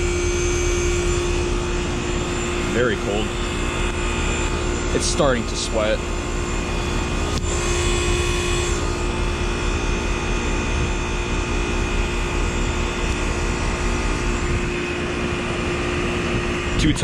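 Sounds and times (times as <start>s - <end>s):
compressor humming: 0.0s - 17.0s
outdoor fan rushing: 0.0s - 17.0s.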